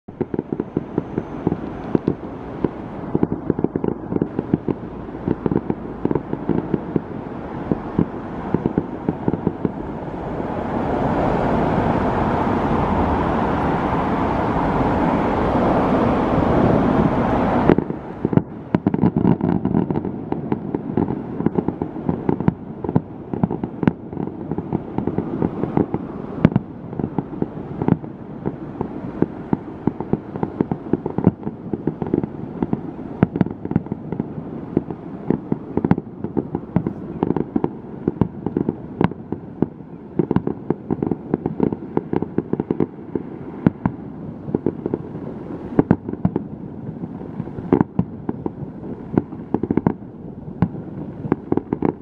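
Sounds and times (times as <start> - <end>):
distant fireworks bangs: 0.1 - 52.0.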